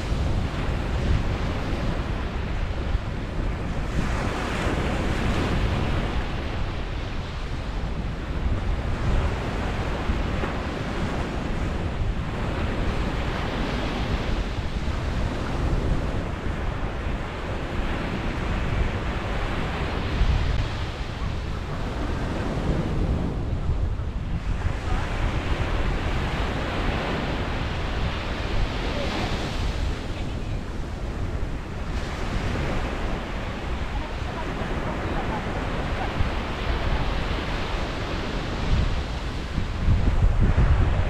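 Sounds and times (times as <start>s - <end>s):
surf breaking on a beach: 0.0s - 41.0s
wind rumbling on microphone: 0.0s - 41.0s.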